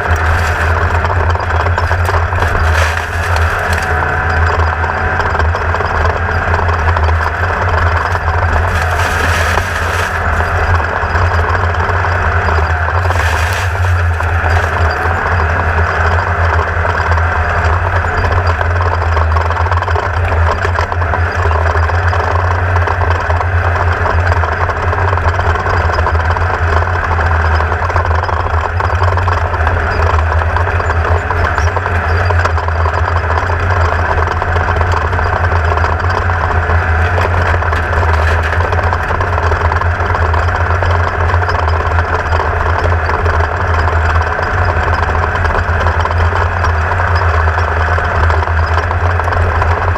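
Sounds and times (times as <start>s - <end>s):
race car engine running: 0.0s - 49.9s.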